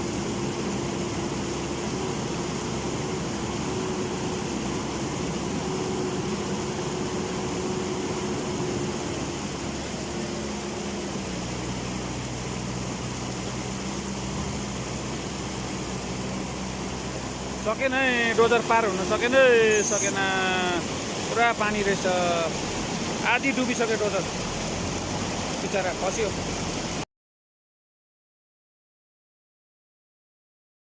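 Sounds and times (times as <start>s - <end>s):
diesel engine running: 0.0s - 27.0s
rushing floodwater: 0.0s - 27.0s.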